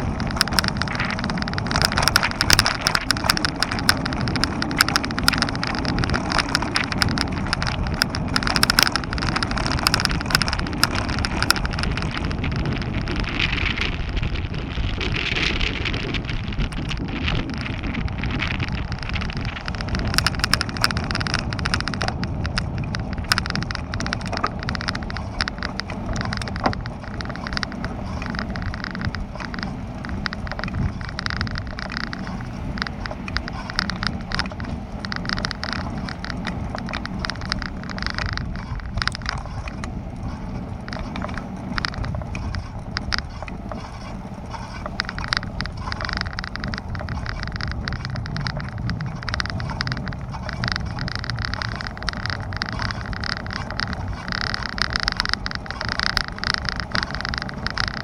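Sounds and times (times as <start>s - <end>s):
bicycle tyres rumbling: 0.0s - 58.0s
bike rattles and clicks: 0.0s - 58.0s
wind on microphone: 0.0s - 58.0s.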